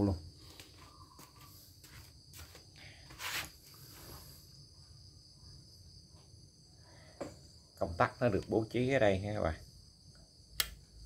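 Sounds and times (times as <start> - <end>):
high-pitched insect trilling: 0.0 - 10.6.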